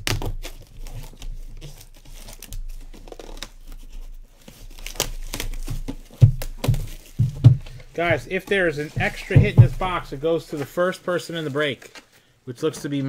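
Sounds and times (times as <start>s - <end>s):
plastic wrapping tearing and crinkling: 0.0s - 10.6s.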